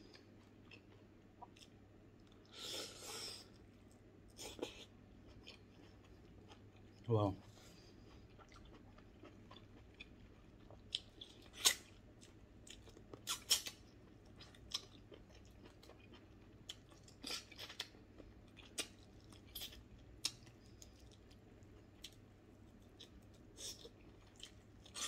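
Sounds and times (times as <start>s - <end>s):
person chewing with crunches: 0.0s - 25.0s.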